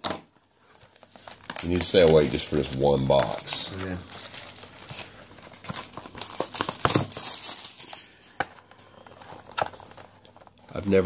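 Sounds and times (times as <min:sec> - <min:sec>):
plastic shrink wrap crinkling and tearing: 0:00.4 - 0:11.0.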